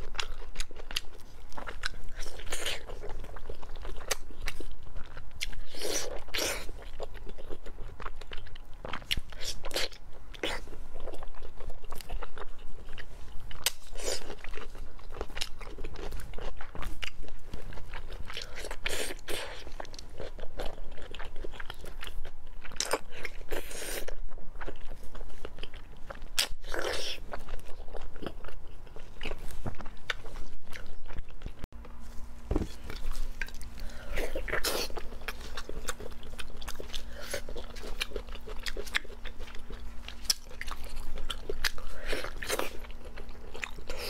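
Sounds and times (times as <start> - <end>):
biting and chewing food: 0.0 - 44.0.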